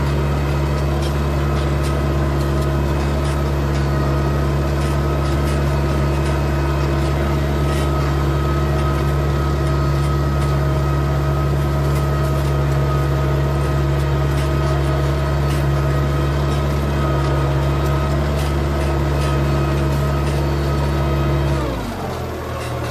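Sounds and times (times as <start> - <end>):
tractor diesel engine droning: 0.0 - 22.9.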